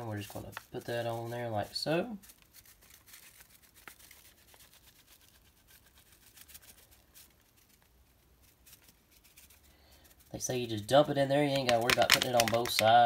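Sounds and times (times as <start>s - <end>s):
powder pattering onto meat: 0.0s - 13.0s.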